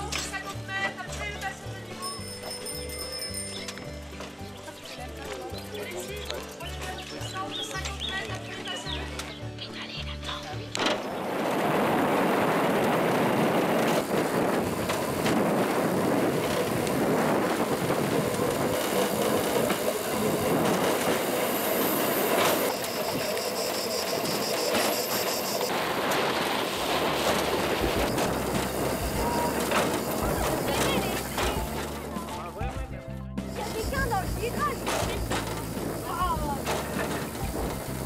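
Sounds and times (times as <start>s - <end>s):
rail bike wheels rolling on rails: 0.0s - 32.8s, 33.4s - 38.0s.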